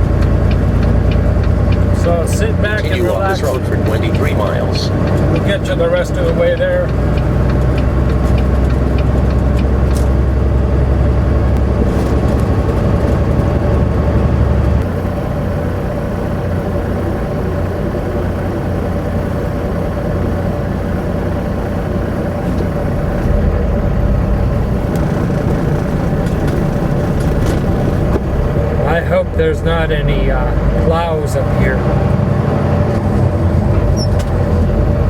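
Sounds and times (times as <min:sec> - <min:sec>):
diesel truck engine hum: 0:00.0 - 0:35.0
road noise: 0:00.0 - 0:35.0.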